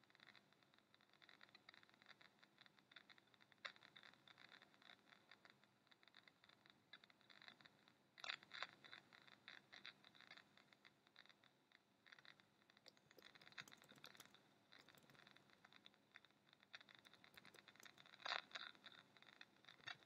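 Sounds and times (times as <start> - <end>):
faint crackles and scratches: 0.0 - 20.0.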